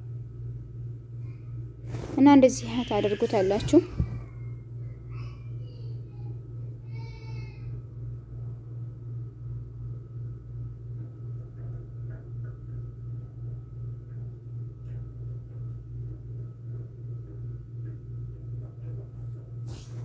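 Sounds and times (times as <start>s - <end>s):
throbbing mechanical hum: 0.0s - 20.0s.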